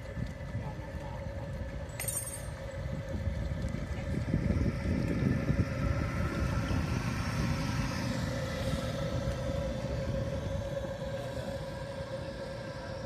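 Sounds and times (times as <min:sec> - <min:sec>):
droning hum: 0:00.0 - 0:13.0
wind rumbling on microphone: 0:00.0 - 0:13.0.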